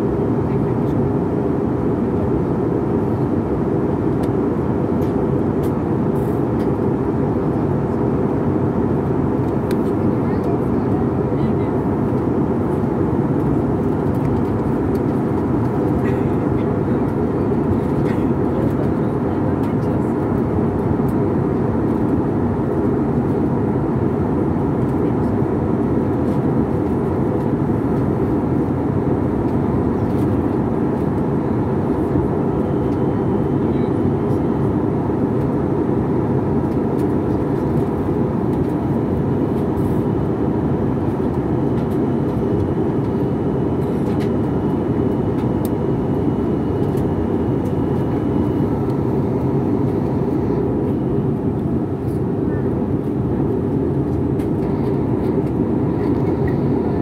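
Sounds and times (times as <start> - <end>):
jet airliner cabin rumble: 0.0 - 57.0.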